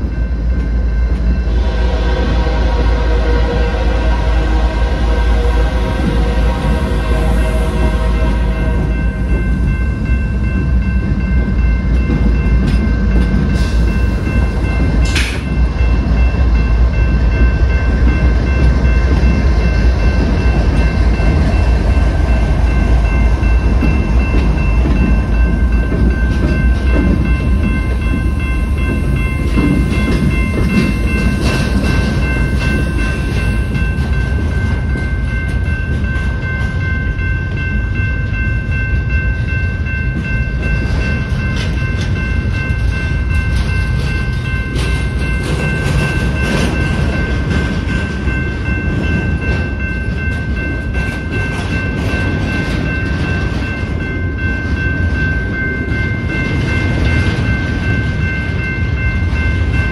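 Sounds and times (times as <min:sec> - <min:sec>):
diesel locomotives rumbling: 0:00.0 - 0:59.9
train wheels clattering and clanking: 0:05.8 - 0:59.9.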